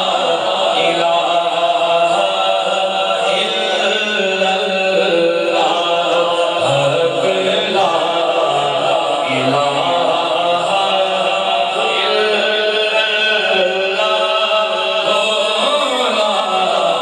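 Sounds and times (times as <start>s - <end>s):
man chanting devotional song: 0.0s - 17.0s.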